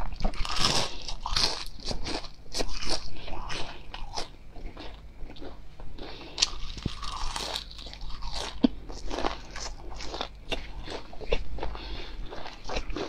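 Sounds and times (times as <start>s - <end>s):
crunching fried food: 0.0s - 13.0s.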